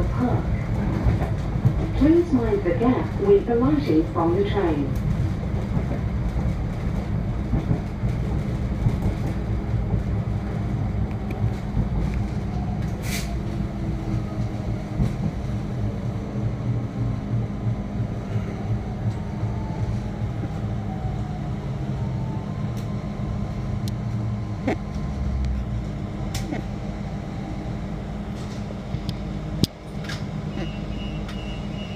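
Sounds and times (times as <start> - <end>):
train engine and wheels rumbling: 0.0 - 31.9.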